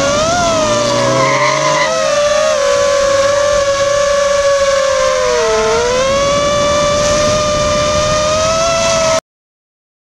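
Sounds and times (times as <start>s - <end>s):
drone motors whining: 0.0s - 9.2s.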